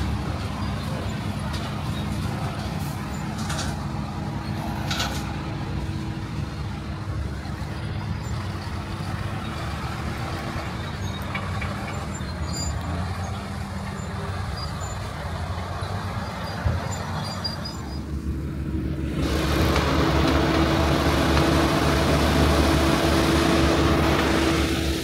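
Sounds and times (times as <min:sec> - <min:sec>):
heavy truck engines running: 0:00.0 - 0:25.0
road traffic: 0:00.0 - 0:25.0.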